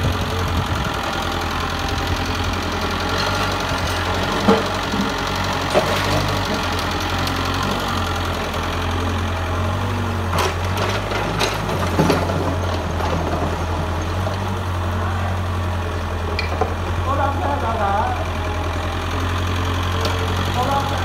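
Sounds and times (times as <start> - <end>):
excavator diesel engine drone: 0.0 - 21.0.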